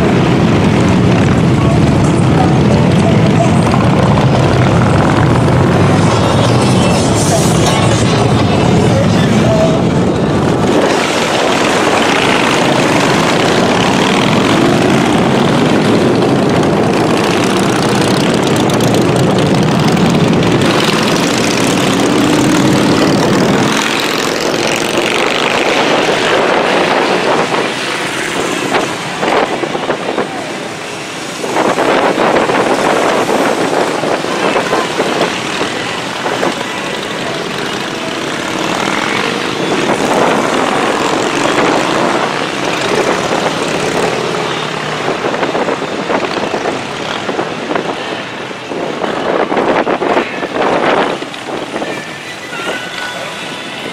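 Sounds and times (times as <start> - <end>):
motorcycle engines droning: 0.0 - 53.9.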